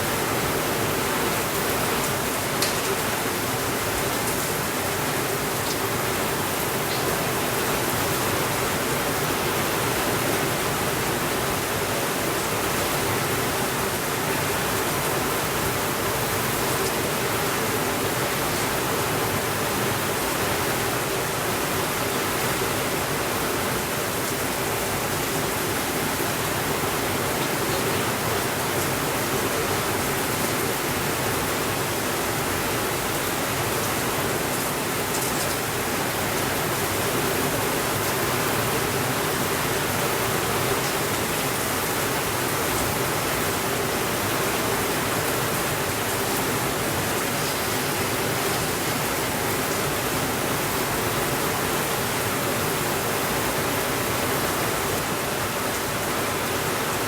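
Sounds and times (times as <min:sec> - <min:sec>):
steady rainfall hiss: 0:00.0 - 0:57.0.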